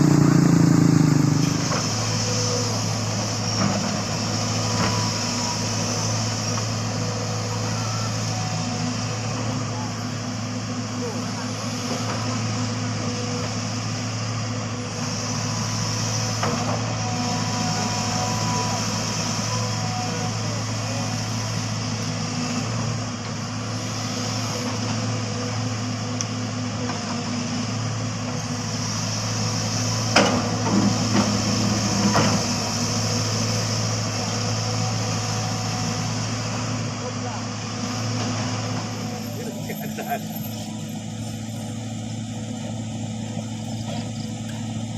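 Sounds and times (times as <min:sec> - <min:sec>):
truck diesel engine running: 0:00.0 - 0:44.9.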